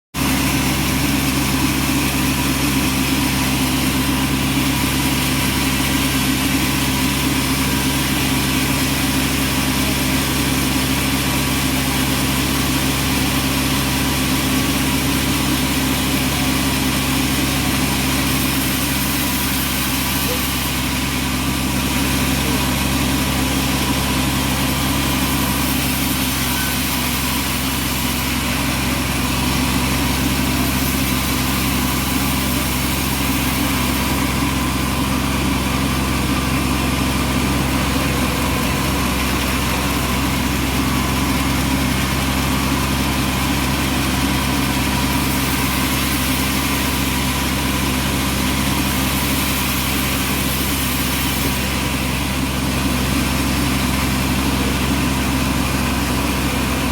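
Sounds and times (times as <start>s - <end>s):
sawmill engine drone: 0.2s - 56.9s.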